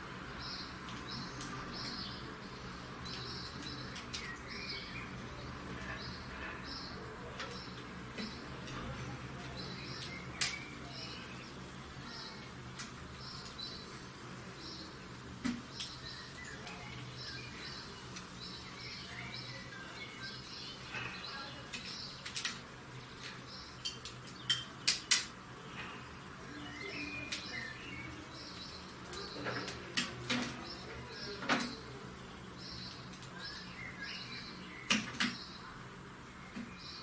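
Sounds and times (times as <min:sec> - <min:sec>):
bird chirping and twittering: 0:00.3 - 0:37.0.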